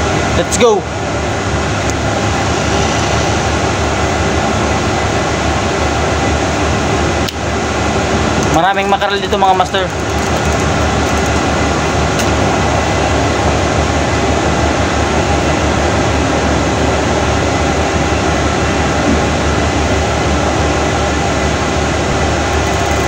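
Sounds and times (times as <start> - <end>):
faint constant hum: 0.0 - 23.0
ship machinery rushing drone: 0.0 - 23.0.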